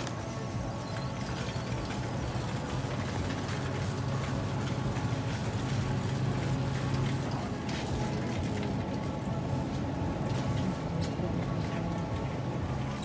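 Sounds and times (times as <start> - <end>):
shopping cart rattling on tiles: 0.0 - 13.0.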